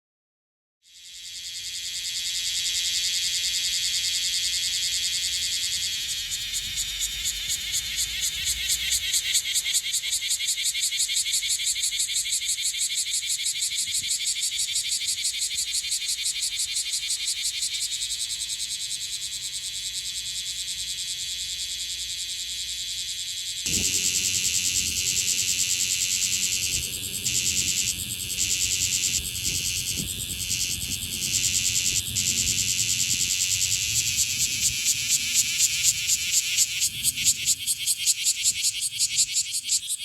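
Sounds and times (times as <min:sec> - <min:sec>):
cicada buzzing call: 0:00.9 - 0:40.0.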